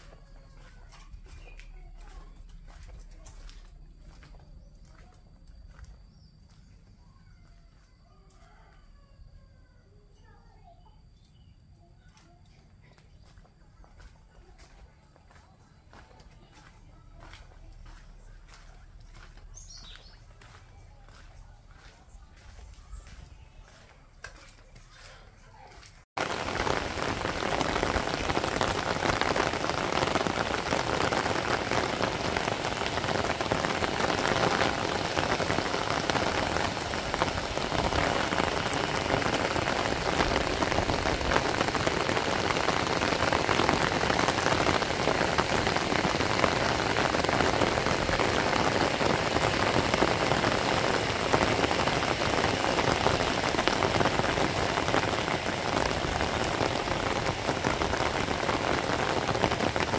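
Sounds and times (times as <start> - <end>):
steady rain falling: 0.0 - 6.6, 13.2 - 25.0, 25.8 - 59.9.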